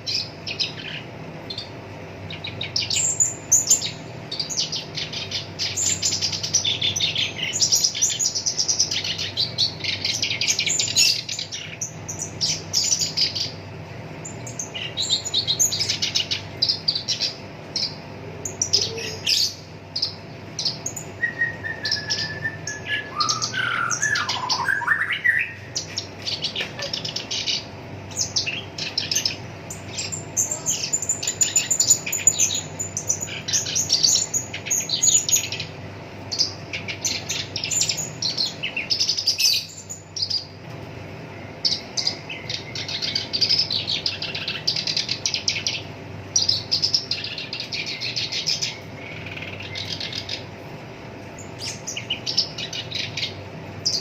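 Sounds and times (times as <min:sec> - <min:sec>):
warbler chattering song: 0:00.0 - 0:54.0.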